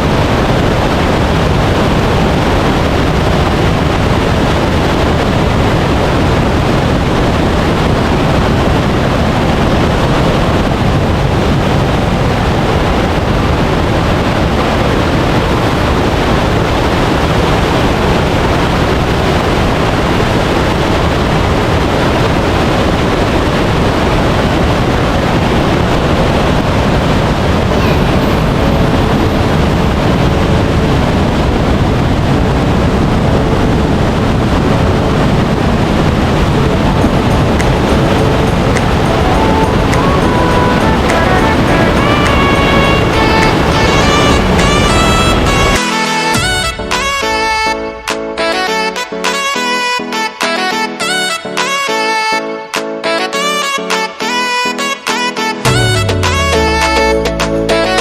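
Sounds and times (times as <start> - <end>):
waterfall roaring: 0.0 - 49.1.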